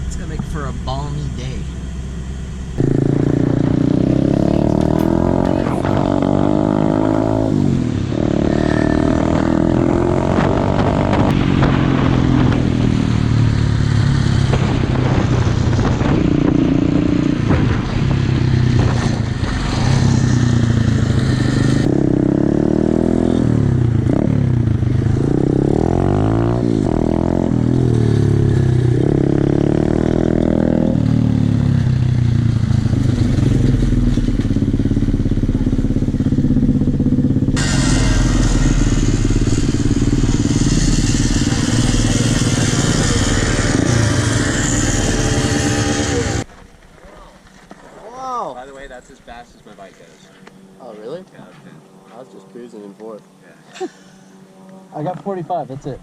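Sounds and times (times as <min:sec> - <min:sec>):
motorcycle engine revving: 0:00.0 - 0:46.6.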